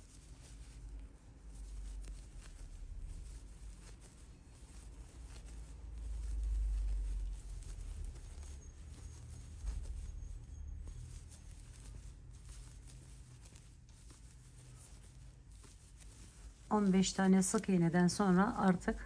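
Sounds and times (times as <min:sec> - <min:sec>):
crochet hook rustling yarn: 0:00.0 - 0:19.0.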